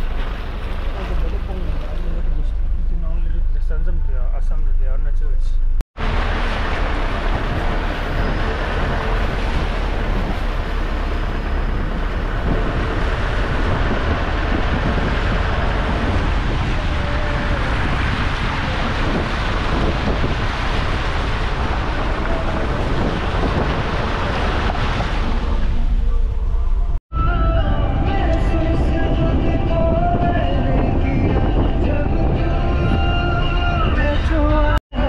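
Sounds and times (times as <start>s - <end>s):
vehicle running on muddy road: 0.0s - 2.9s, 6.0s - 35.0s
wind rush on microphone: 6.0s - 35.0s.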